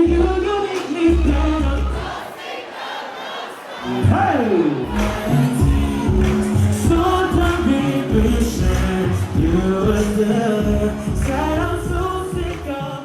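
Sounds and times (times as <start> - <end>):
pop song with heavy bass beat: 0.0 - 2.3, 3.8 - 13.0.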